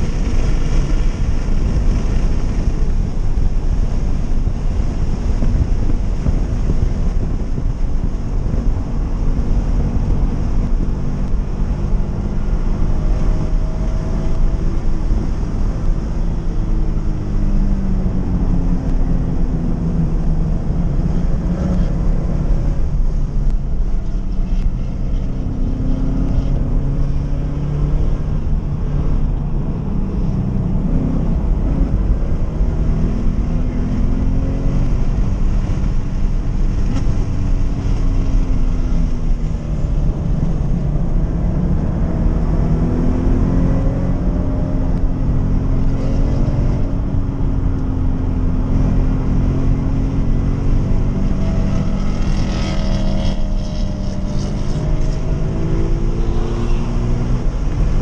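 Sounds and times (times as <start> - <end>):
car engine revving: 0.0 - 58.0
road and wind rumble: 0.0 - 58.0.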